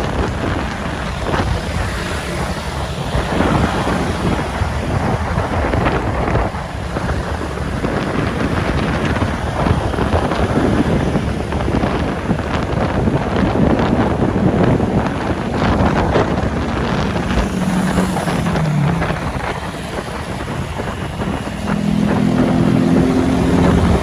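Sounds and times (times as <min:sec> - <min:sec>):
motorbike engine: 0:00.0 - 0:24.0
traffic: 0:00.0 - 0:24.0
wind buffeting microphone: 0:00.0 - 0:24.0.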